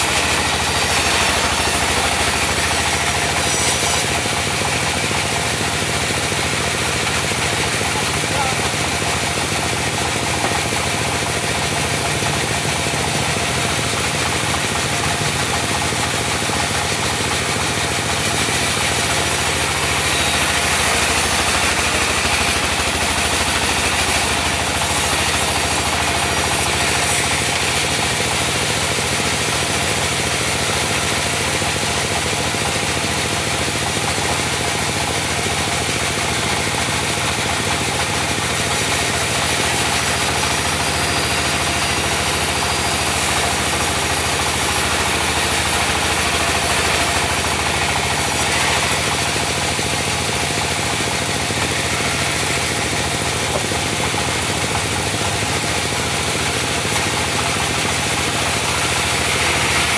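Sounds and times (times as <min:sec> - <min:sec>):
sawmill diesel engine running: 0:00.0 - 0:59.9.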